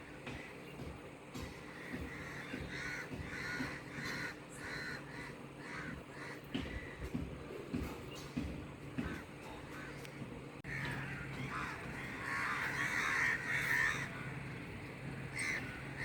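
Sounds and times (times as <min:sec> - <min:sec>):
steady low hum: 0:00.0 - 0:16.0
crows cawing: 0:01.4 - 0:16.0.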